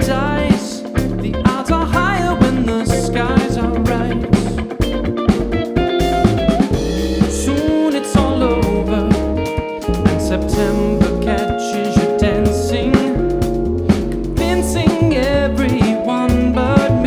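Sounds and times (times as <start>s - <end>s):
bass line: 0.0s - 17.0s
drum kit: 0.0s - 17.0s
guitar: 0.0s - 17.0s
sustained keyboard chords: 0.0s - 17.0s.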